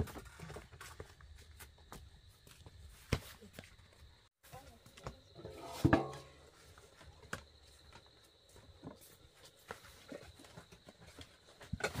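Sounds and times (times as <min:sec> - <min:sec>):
steps on bamboo floor: 0:00.0 - 0:12.0.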